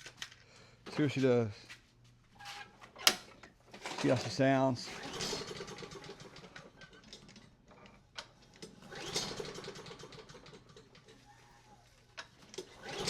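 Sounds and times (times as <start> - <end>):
lawn mower pull-cord cranking: 2.4 - 13.0.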